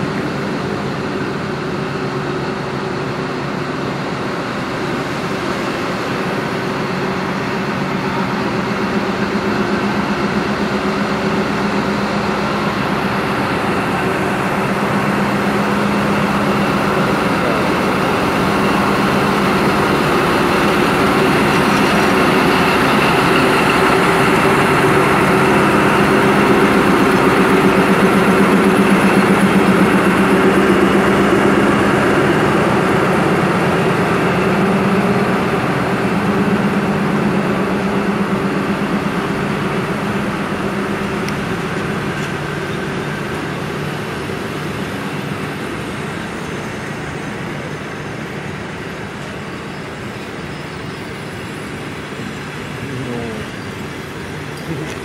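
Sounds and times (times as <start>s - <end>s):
carriages rolling on rails: 0.0s - 55.0s
locomotive engine drone: 0.0s - 55.0s.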